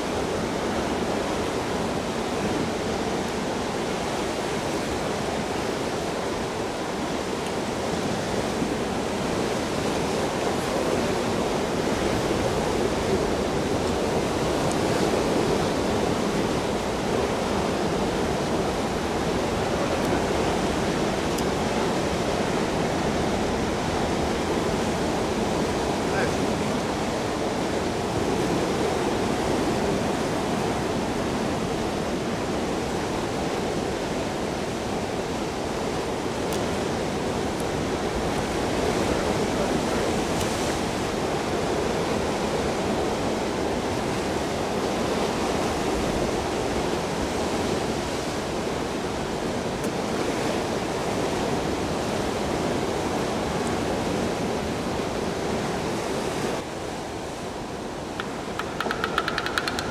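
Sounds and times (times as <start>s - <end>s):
ocean surf on rocky shore: 0.0s - 59.9s.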